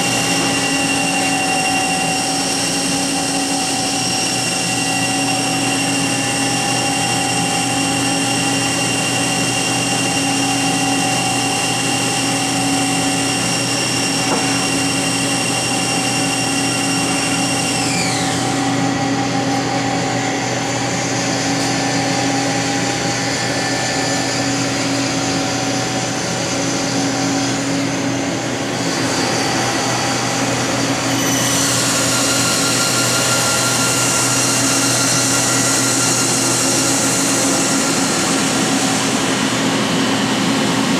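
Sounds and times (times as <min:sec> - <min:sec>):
lathe machine hum: 0:00.0 - 0:40.9.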